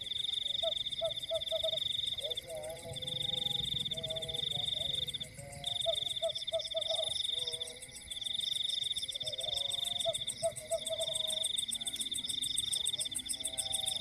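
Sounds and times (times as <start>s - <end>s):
frogs croaking: 0.0s - 14.0s
high-pitched insect trill: 0.0s - 14.0s.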